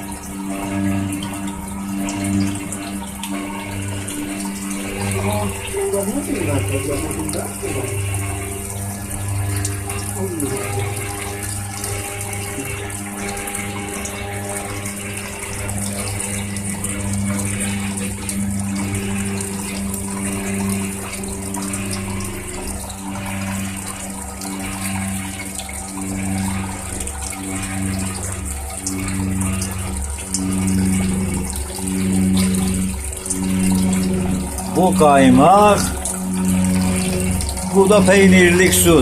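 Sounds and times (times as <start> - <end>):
cream separator humming: 0.0 - 39.0
milk streaming from spouts: 0.0 - 39.0.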